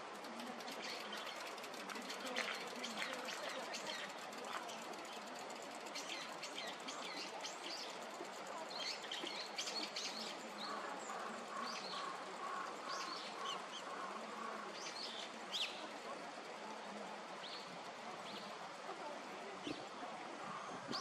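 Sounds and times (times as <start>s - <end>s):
steady outdoor hiss: 0.0s - 21.0s
birds chirping: 0.2s - 18.8s.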